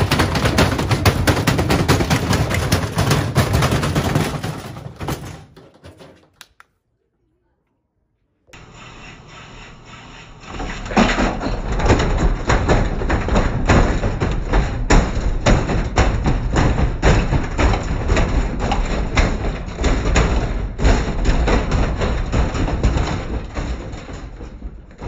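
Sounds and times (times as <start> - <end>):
washing machine banging: 0.0 - 6.4, 10.5 - 25.0.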